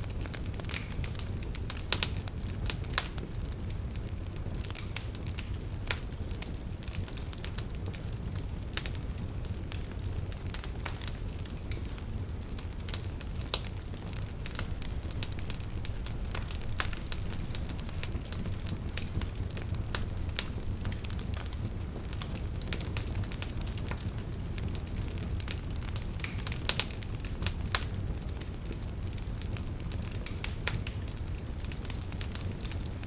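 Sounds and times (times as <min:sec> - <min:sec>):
campfire crackling and popping: 0:00.0 - 0:33.0
low rumble of flames: 0:00.0 - 0:33.0.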